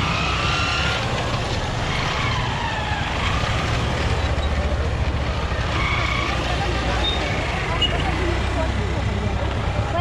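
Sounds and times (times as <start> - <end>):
motor vehicles rumbling: 0.0 - 10.0.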